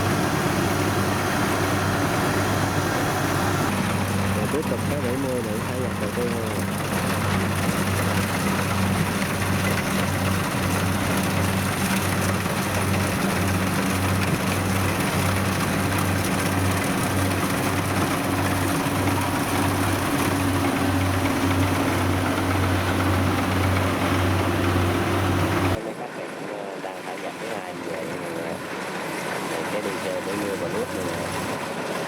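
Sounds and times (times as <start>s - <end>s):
diesel engine throbbing: 0.0s - 25.8s.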